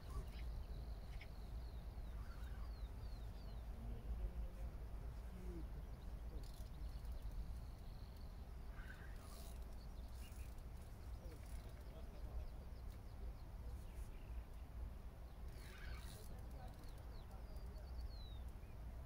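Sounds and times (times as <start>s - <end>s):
faint bird calls: 0.0s - 4.6s, 5.2s - 14.7s, 15.3s - 18.8s
low outdoor rumble: 0.0s - 19.0s.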